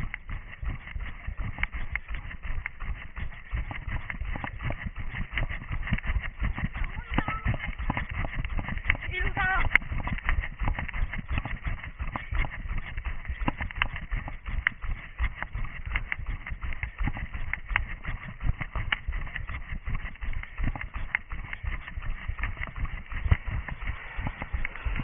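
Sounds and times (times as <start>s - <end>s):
running footsteps: 0.0s - 25.0s.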